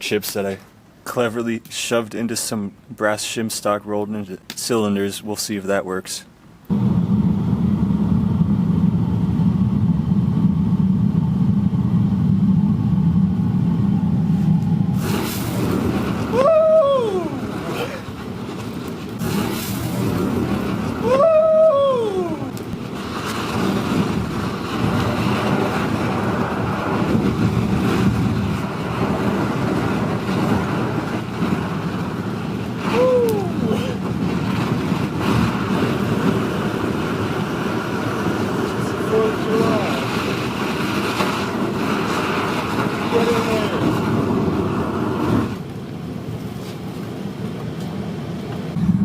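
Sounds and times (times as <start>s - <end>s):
furnace burner roaring: 6.6s - 49.0s.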